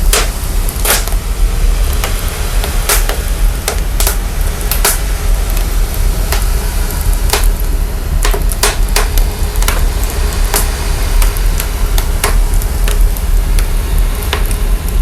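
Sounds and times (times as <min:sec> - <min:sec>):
fire pops and snaps: 0:00.0 - 0:15.0
fire sub-bass rumble: 0:00.0 - 0:15.0.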